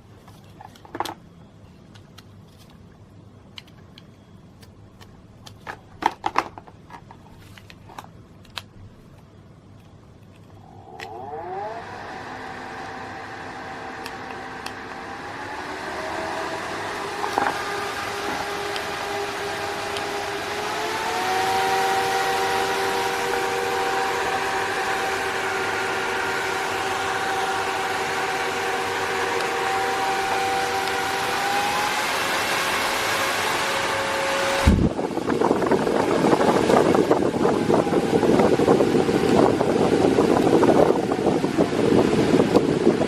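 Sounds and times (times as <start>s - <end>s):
cooling fans whining: 0.0s - 43.0s.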